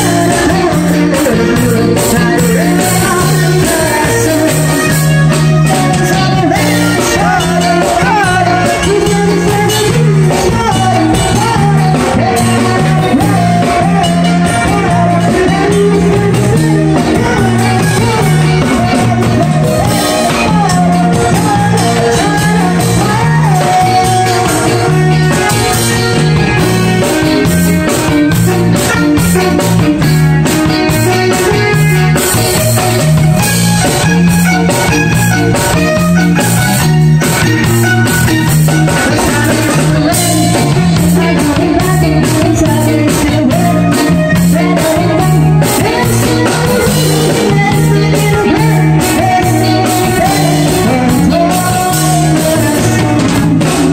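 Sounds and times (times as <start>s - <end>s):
electric bass line: 0.0s - 53.9s
person singing: 0.0s - 53.9s
rock band playing: 0.0s - 53.9s.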